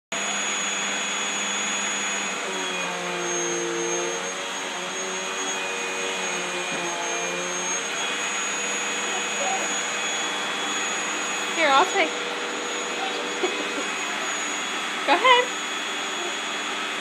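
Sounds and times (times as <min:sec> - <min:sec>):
vacuum cleaner running: 0:00.1 - 0:17.0.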